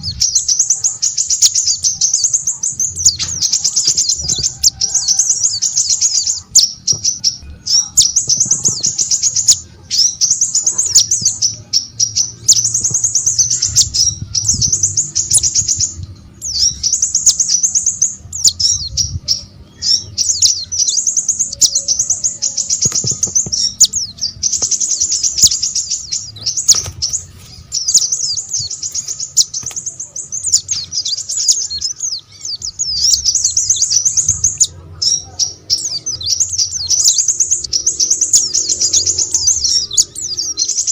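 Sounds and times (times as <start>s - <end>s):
songbird twittering: 0.0s - 40.9s.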